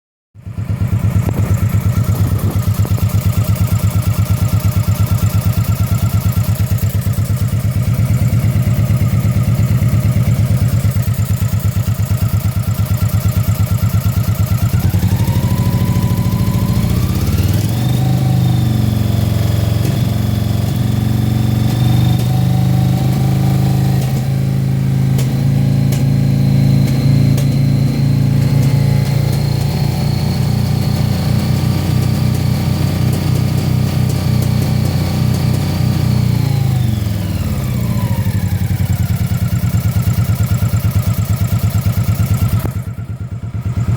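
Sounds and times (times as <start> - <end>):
motorcycle engine idling and revving: 0.4 - 43.9.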